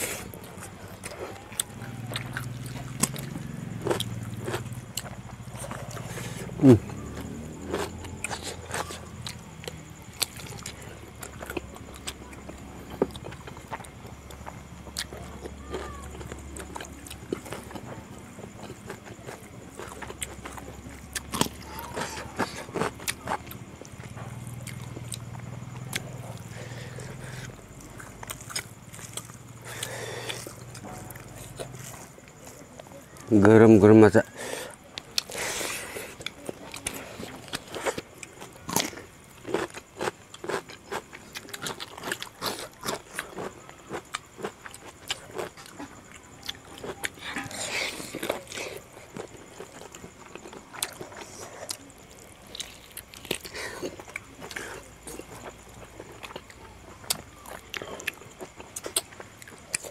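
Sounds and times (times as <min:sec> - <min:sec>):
chewing and lip-smacking: 0:00.0 - 0:33.3, 0:34.8 - 0:59.9
steady low hum: 0:00.0 - 0:59.9.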